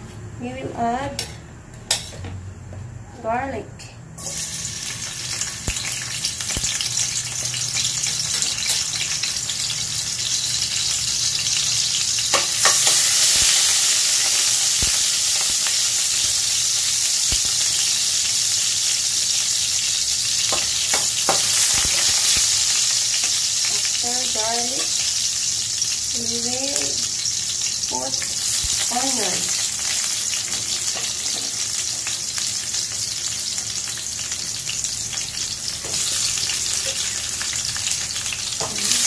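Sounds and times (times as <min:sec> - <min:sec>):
garlic sizzling in oil: 0:04.2 - 0:39.0.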